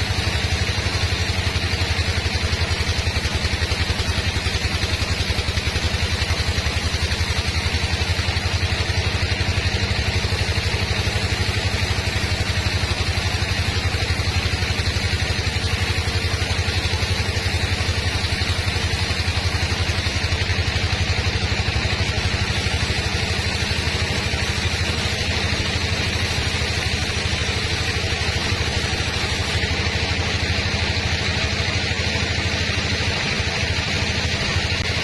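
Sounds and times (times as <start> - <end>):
sawmill machinery droning: 0.0 - 35.0.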